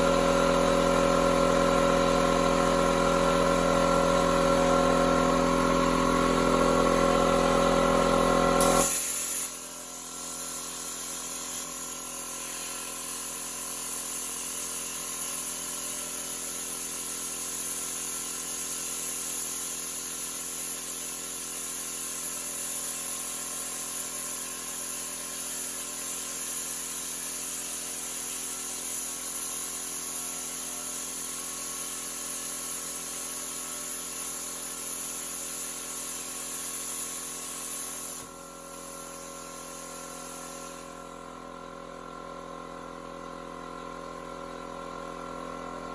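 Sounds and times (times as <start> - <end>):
plasma cutter loud hum: 0.0 - 45.6.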